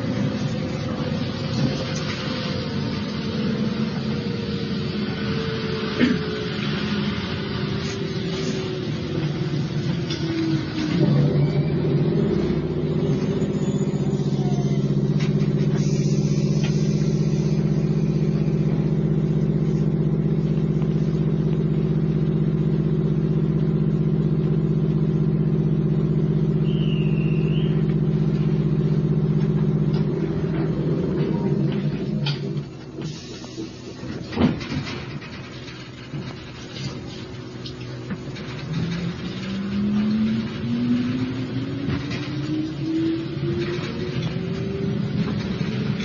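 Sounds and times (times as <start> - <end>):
train interior hum and rumble: 0.0 - 46.0.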